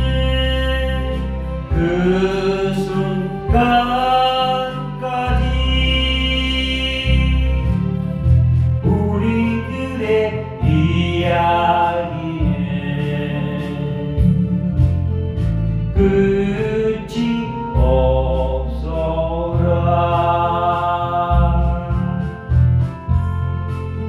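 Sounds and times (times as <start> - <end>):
person singing: 0.0 - 23.3
backing track bass and chords: 0.0 - 24.0.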